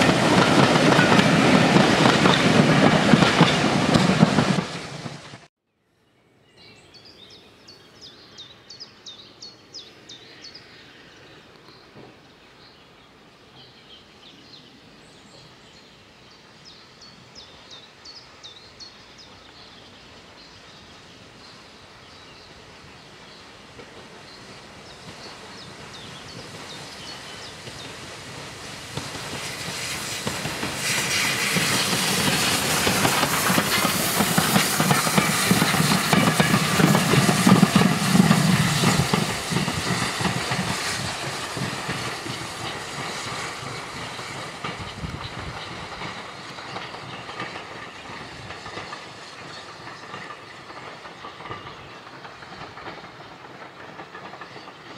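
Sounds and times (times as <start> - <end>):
steam locomotive running past: 0.0 - 5.5, 8.0 - 54.9.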